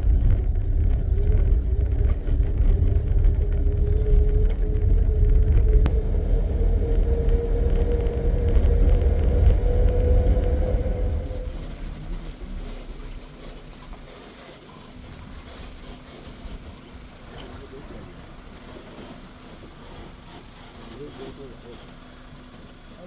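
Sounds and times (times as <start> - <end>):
jeep engine running: 0.0 - 23.0
road and wind rumble: 0.0 - 23.0.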